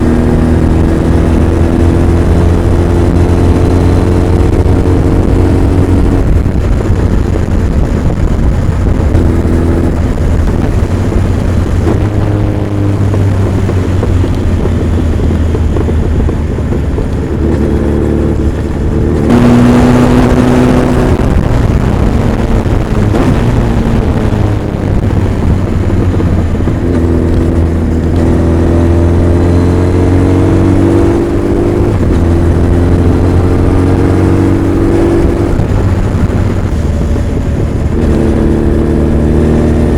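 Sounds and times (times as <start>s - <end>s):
motorcycle engine revving: 0.0s - 39.9s
loud rush of noise: 3.0s - 39.9s.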